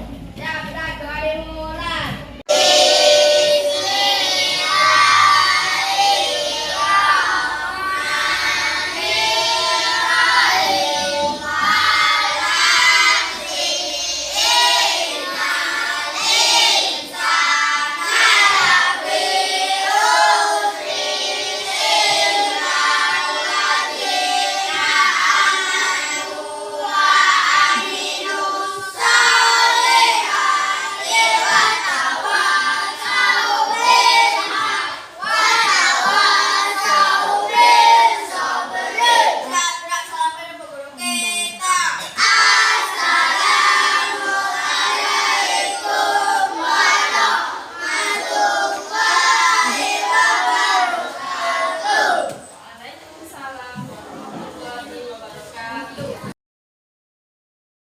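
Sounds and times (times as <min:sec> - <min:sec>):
children chanting a prayer: 0:01.7 - 0:52.6.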